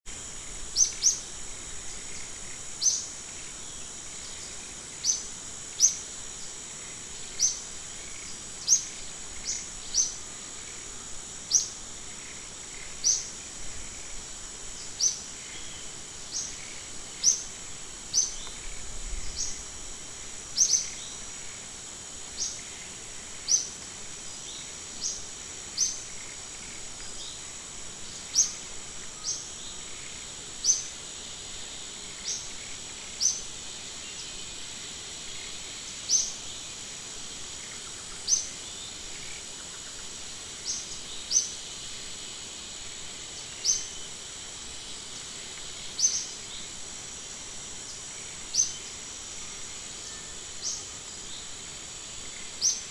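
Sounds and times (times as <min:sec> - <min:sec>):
high-pitched insect drone: 0:00.1 - 0:52.9.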